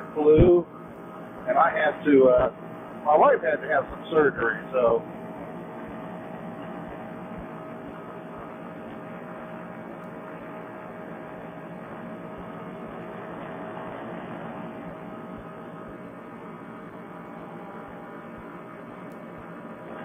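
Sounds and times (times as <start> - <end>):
faint constant tone: 0.0 - 20.0
paramotor engine and propeller hum: 0.0 - 20.0.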